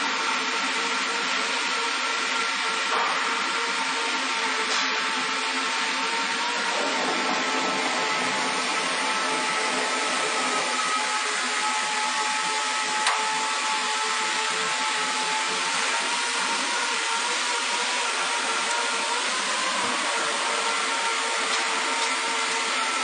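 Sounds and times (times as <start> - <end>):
cnc router whirring: 0.0 - 23.0.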